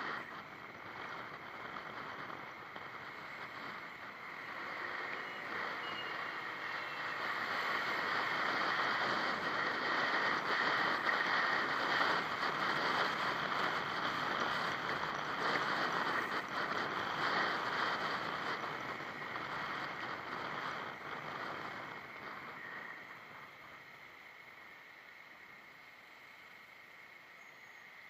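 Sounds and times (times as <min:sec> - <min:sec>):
wind noise: 0:00.0 - 0:26.9
vehicle road noise: 0:00.0 - 0:28.0.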